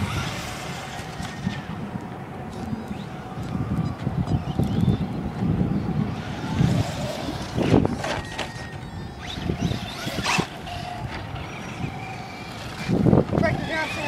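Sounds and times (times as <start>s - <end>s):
radio-controlled trucks on dirt: 0.0s - 14.0s
wind rumble on microphone: 0.0s - 14.0s.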